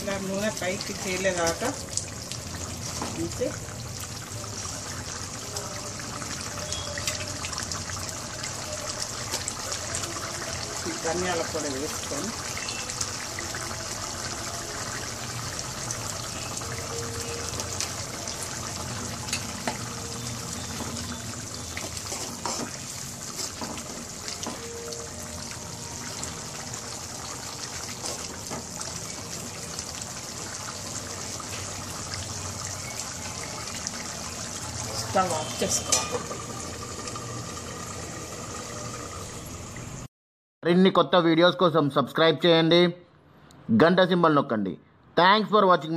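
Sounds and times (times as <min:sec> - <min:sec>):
gravy bubbling and sizzling: 0:00.0 - 0:40.1.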